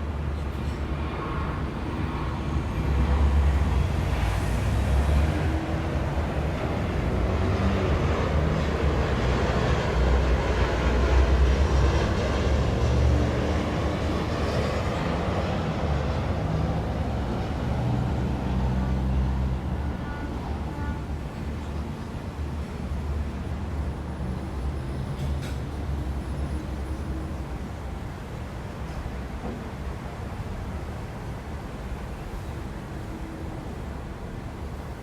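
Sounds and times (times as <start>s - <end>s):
city traffic rumble: 0.0s - 35.0s.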